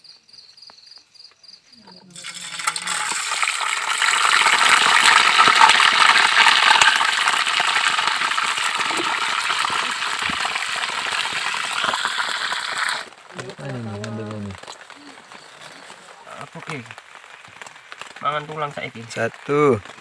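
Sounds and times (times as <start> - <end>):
fish sizzling in hot oil: 2.1 - 20.0.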